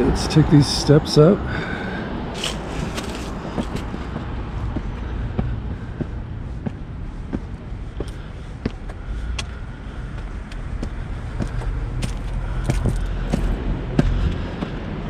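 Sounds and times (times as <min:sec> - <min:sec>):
passing car traffic: 0:00.0 - 0:15.0
footsteps climbing stairs: 0:01.6 - 0:15.0.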